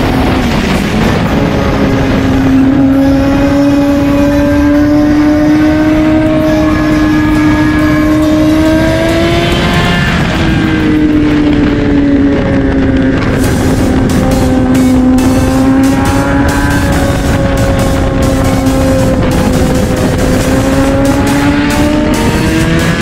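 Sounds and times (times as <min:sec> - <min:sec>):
motorcycle engine at high revs: 0:00.0 - 0:23.0
wind rush on microphone: 0:00.0 - 0:23.0.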